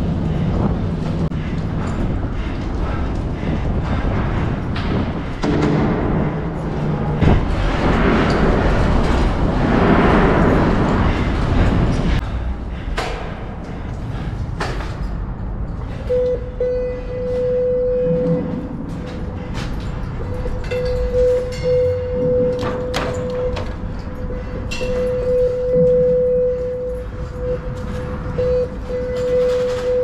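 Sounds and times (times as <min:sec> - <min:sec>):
bicycle riding rumble: 0:00.0 - 0:30.0.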